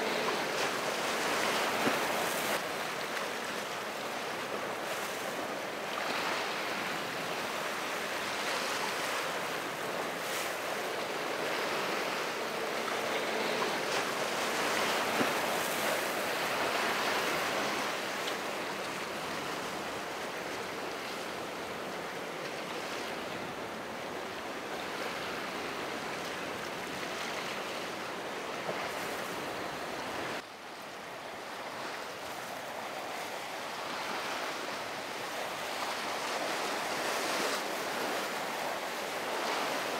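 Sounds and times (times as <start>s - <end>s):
ocean waves breaking: 0.0s - 30.4s, 31.0s - 39.9s
wind: 0.0s - 39.9s.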